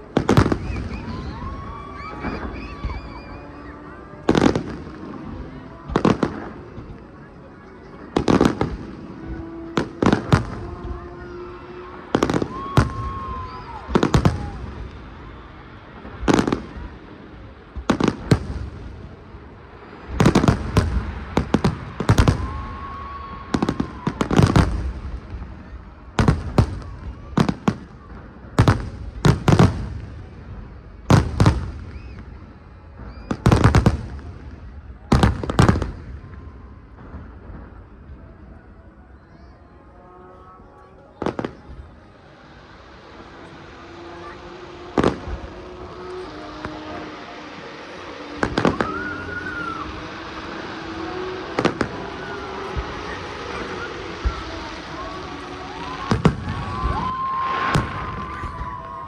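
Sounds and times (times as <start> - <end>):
fireworks banging: 0.0 - 59.0
fireworks whistling: 0.0 - 59.0.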